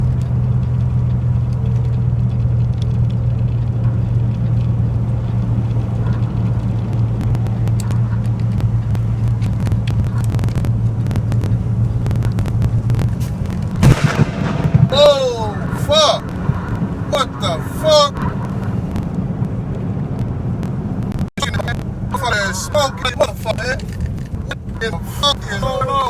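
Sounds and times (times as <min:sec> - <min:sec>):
sharp ticks: 0:00.0 - 0:26.0
truck engine droning: 0:00.0 - 0:26.0.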